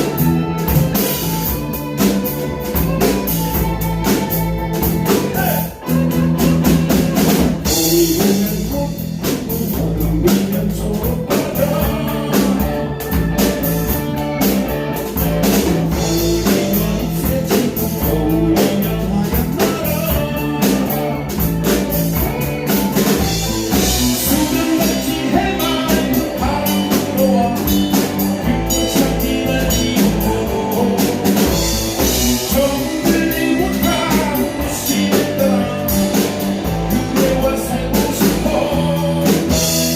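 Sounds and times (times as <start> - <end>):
band music: 0.0 - 39.9
drum kit beat: 0.0 - 39.9.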